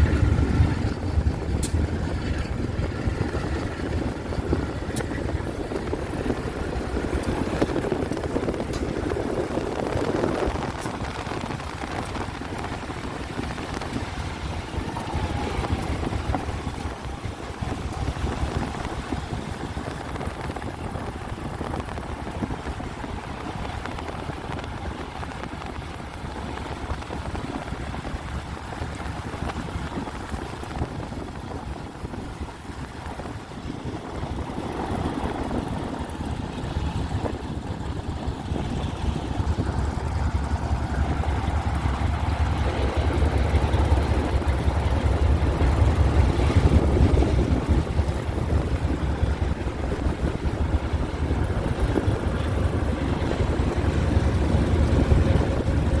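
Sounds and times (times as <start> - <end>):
diesel locomotive rumbling: 0.0 - 56.0
wind noise on microphone: 0.0 - 56.0.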